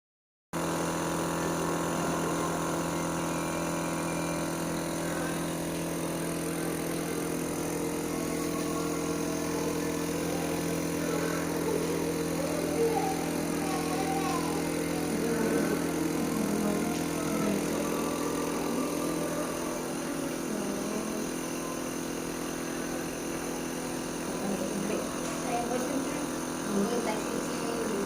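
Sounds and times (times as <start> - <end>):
motor humming: 0.6 - 28.0.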